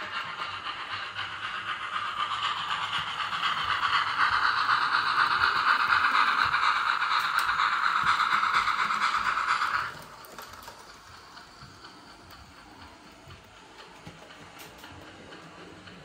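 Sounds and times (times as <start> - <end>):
model steam locomotive sound: 0.0 - 16.0
wheels rattling on track: 0.0 - 16.0.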